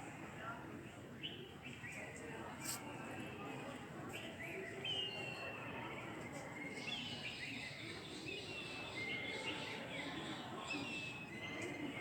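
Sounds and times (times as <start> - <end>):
outdoor background murmur: 0.0 - 12.0.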